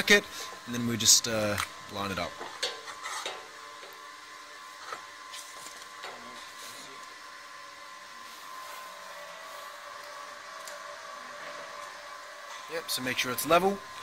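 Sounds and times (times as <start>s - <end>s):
machinery hum with whine: 0.0s - 14.0s.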